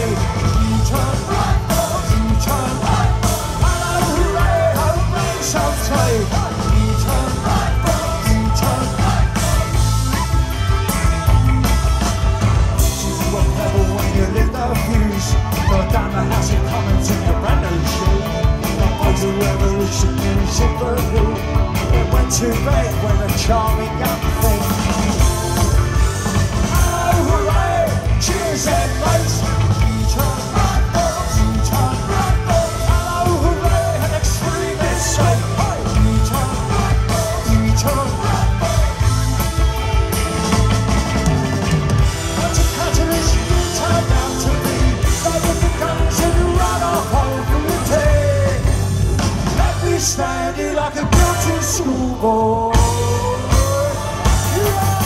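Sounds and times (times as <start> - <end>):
lead vocal singing: 0.0 - 55.0
live rock band playing: 0.0 - 55.0.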